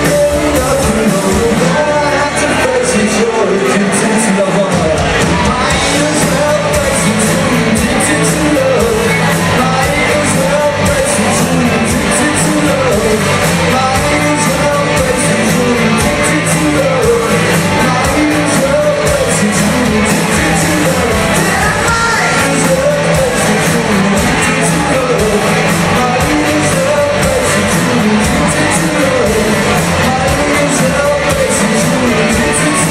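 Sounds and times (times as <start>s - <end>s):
person singing: 0.0s - 32.9s
rock band playing: 0.0s - 32.9s.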